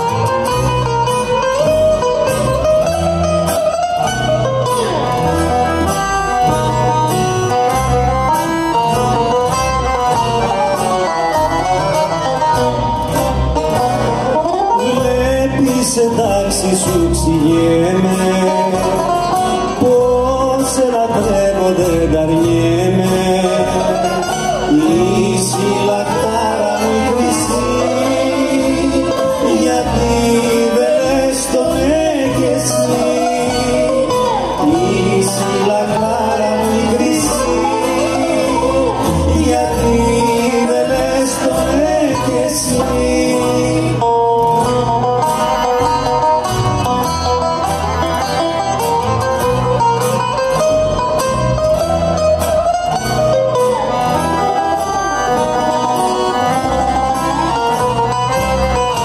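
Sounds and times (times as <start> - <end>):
accordion: 0.0 - 59.0
acoustic guitars: 0.0 - 59.0
double bass: 0.0 - 59.0.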